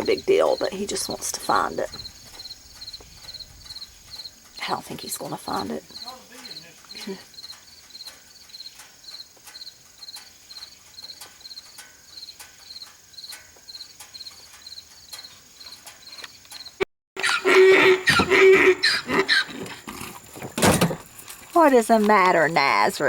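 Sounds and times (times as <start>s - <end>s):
crickets chirping: 0.0s - 16.8s, 17.4s - 23.0s.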